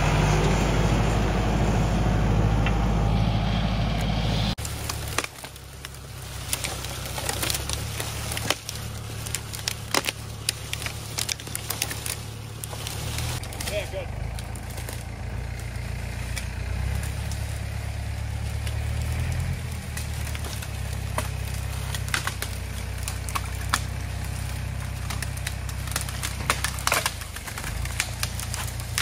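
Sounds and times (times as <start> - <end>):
engine idling: 0.0 - 29.0
dry leaves and twigs crackling: 3.7 - 29.0.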